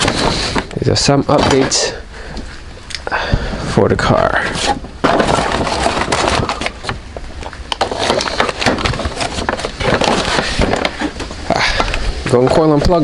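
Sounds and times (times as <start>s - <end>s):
paper bag rustling: 0.0s - 2.0s, 4.4s - 13.0s.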